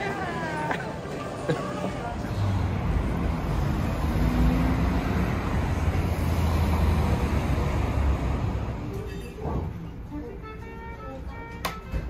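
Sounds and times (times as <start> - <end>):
vehicle rumble and hiss: 0.6 - 10.4.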